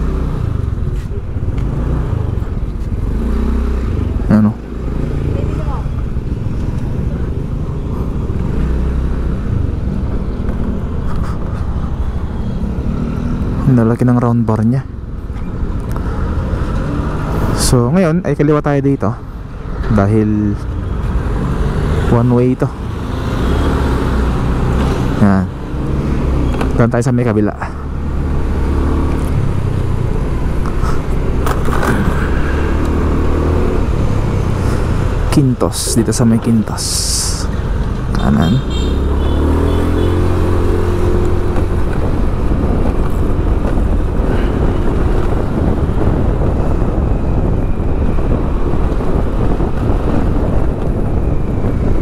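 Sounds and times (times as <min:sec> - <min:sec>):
street traffic noise: 0:00.0 - 0:52.0
vehicle engine and road noise: 0:00.0 - 0:52.0.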